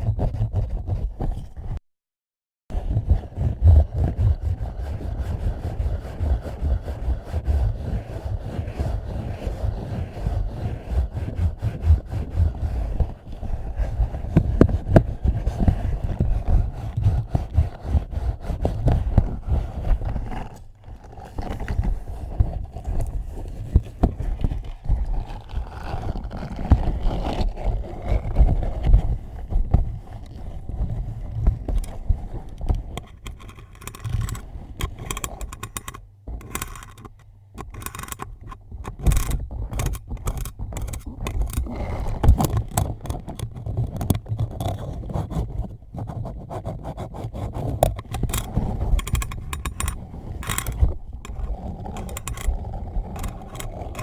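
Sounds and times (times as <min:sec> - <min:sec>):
hands rubbing on microphone: 0:00.0 - 0:01.8, 0:02.7 - 0:35.5, 0:38.3 - 0:54.0.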